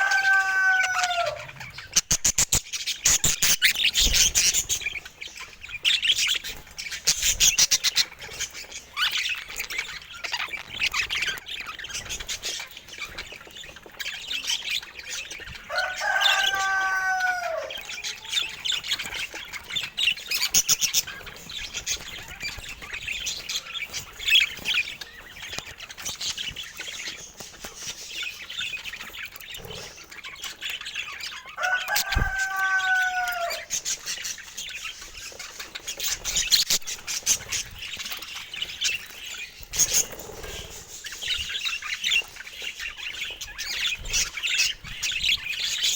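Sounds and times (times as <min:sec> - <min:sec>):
budgerigars chirping and chattering: 0:00.0 - 0:45.9.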